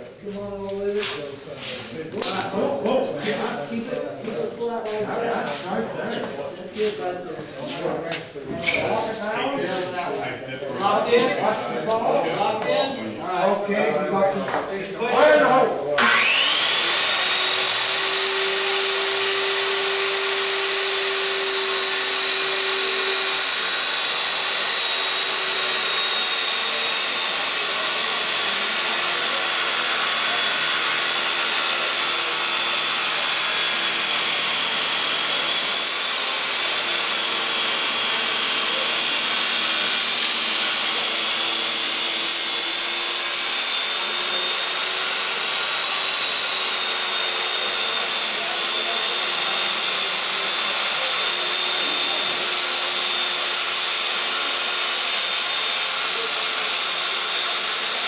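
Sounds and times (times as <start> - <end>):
circular saw cutting wood: 0.0 - 58.0.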